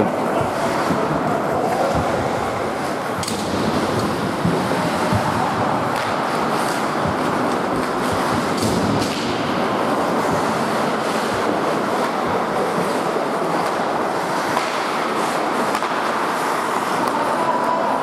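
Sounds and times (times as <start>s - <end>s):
hockey sticks and puck clacking: 0.0s - 18.0s
skates rushing on ice: 0.0s - 18.0s.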